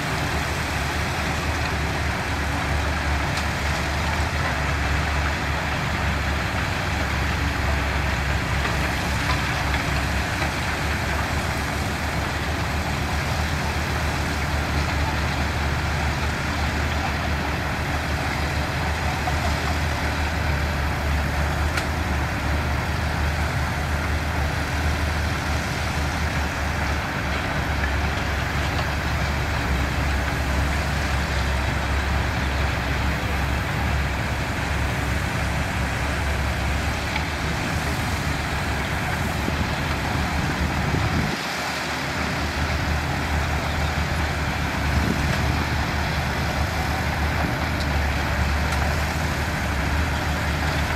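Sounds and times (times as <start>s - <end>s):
diesel machinery engine rumble: 0.0s - 50.9s.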